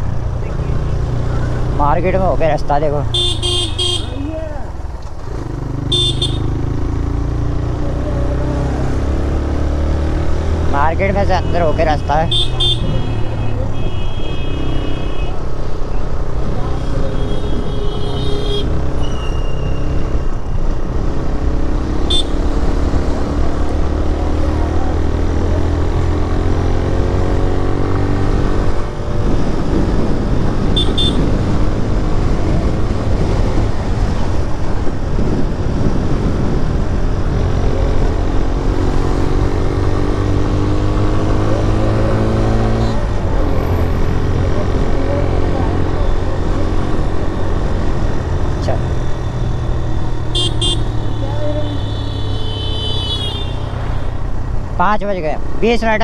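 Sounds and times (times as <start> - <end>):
road and wind rumble: 0.0 - 56.0.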